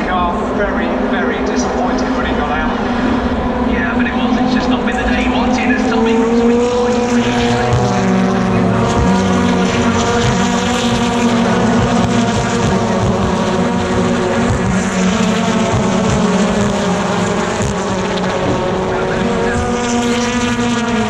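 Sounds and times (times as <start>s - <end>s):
racing car engines: 0.0s - 21.0s.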